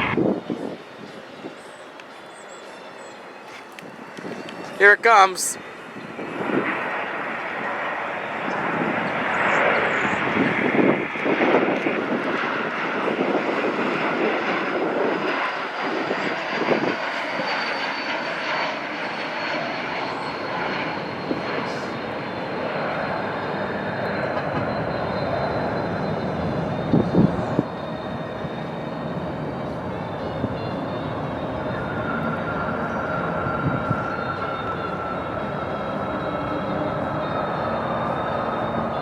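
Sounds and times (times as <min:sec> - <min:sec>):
jet engines passing: 0:00.0 - 0:39.0.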